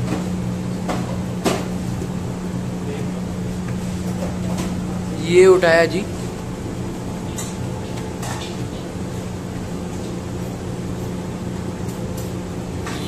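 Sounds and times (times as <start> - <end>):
low hum of kitchen machinery: 0.0 - 13.0.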